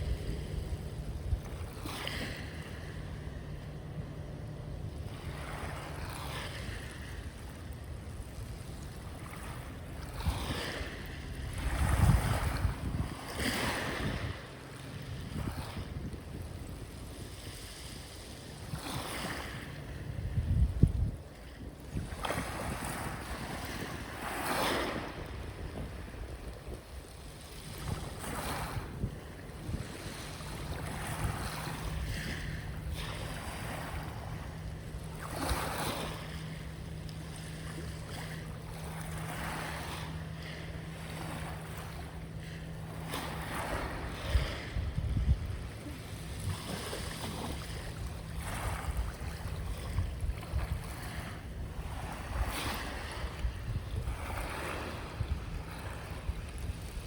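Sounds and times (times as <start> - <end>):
ocean waves washing in: 0.0 - 57.0
steady low hum: 0.0 - 57.0
wind buffeting microphone: 0.0 - 57.0.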